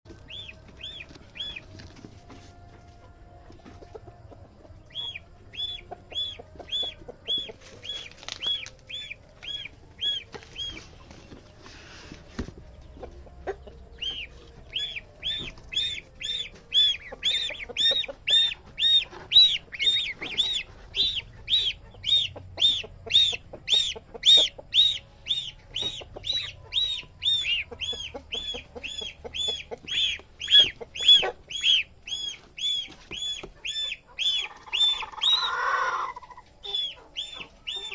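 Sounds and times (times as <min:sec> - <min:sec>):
goslings peeping: 0:00.1 - 0:02.0, 0:04.8 - 0:37.9.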